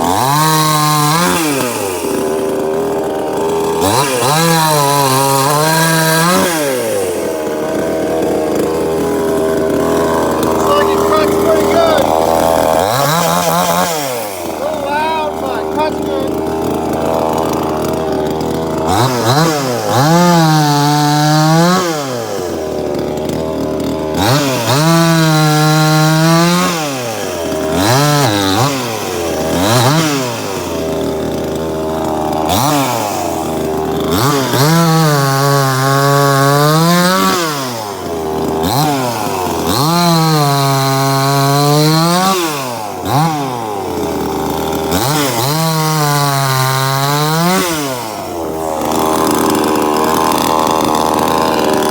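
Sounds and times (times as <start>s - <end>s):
chainsaw revving and cutting wood: 0.0s - 51.9s.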